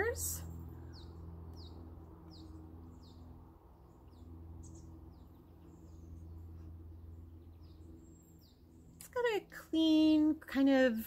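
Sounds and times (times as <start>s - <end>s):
wild birds chirping: 0.0s - 9.5s
faint low hum: 0.0s - 11.0s.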